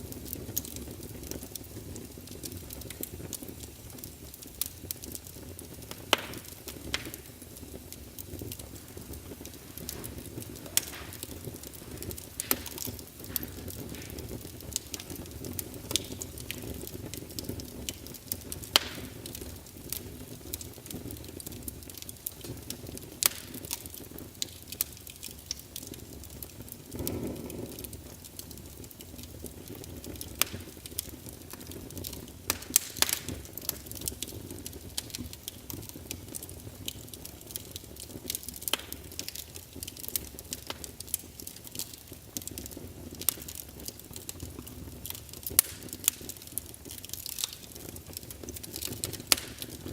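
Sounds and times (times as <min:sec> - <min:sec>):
firewood crackling and popping: 0:00.0 - 0:49.9
flames rushing: 0:00.0 - 0:49.9.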